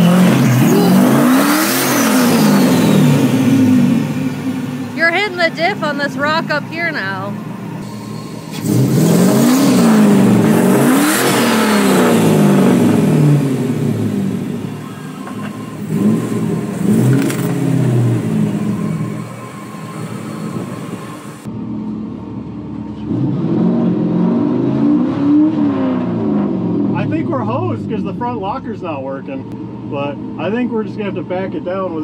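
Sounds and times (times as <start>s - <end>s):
truck engine revving: 0.0s - 21.5s, 22.9s - 29.1s.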